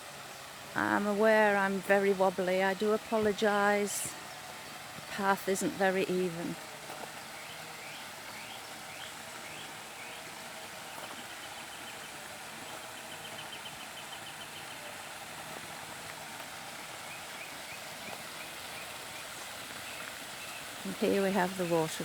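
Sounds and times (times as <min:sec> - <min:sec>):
rushing flowing water: 0:00.0 - 0:22.0
birds singing with trills: 0:00.2 - 0:15.7, 0:16.7 - 0:22.0.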